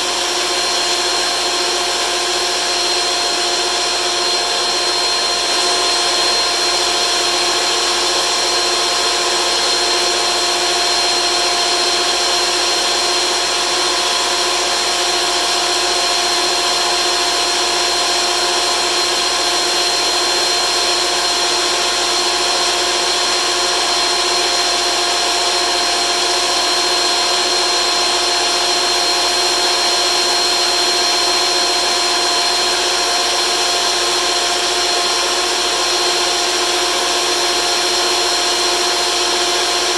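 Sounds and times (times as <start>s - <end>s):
thickness planer running: 0.0s - 39.9s.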